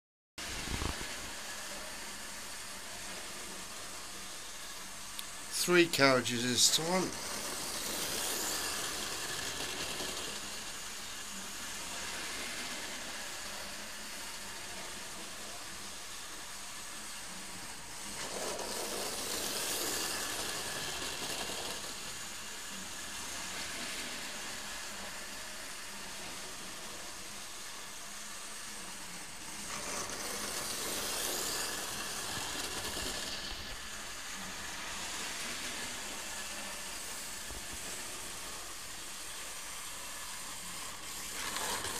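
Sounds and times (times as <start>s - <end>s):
model train whirring on track: 0.4s - 41.9s.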